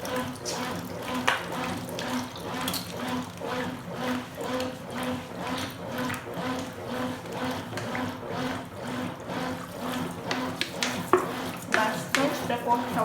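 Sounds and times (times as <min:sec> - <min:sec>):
washing machine filling with water: 0:00.0 - 0:13.0.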